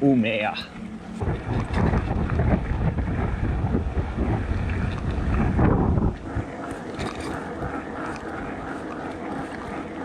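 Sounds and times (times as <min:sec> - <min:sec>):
wind buffeting microphone: 0:00.4 - 0:10.0.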